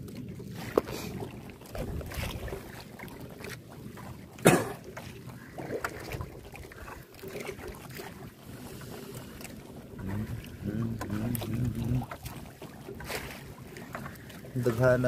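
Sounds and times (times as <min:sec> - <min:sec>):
sea splashing at hull: 0:00.0 - 0:15.0.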